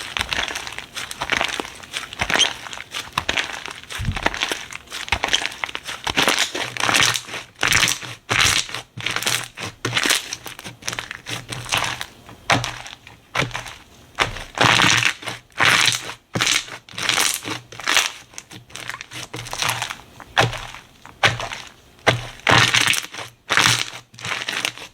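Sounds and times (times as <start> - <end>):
slime popping and squishing: 0.0 - 24.9.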